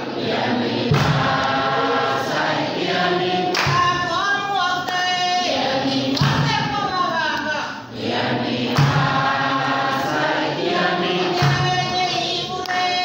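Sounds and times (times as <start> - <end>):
choir singing: 0.0 - 6.8, 7.8 - 13.0.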